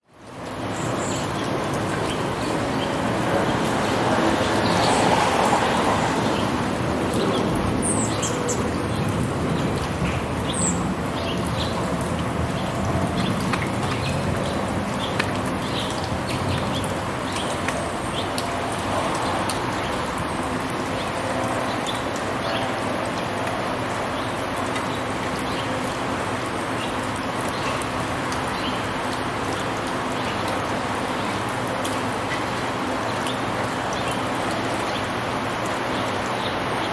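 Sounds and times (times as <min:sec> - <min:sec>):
steady rain: 0:00.0 - 0:36.9
drips and taps: 0:00.1 - 0:36.9.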